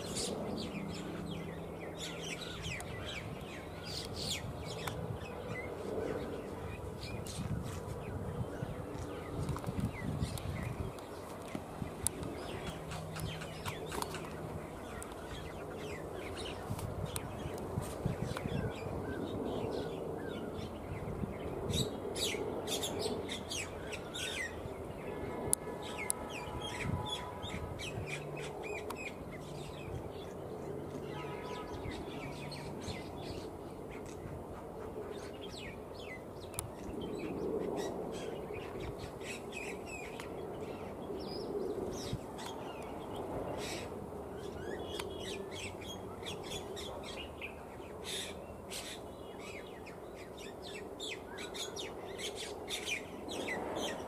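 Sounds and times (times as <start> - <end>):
outdoor background noise: 0.0 - 54.0
small birds chirping: 0.0 - 54.0.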